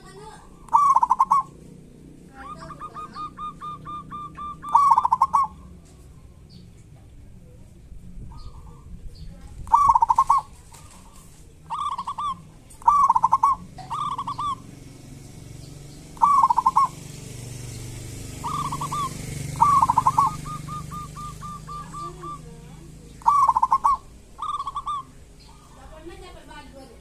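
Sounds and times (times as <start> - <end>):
dove calling: 0.0 - 6.8, 8.2 - 27.0.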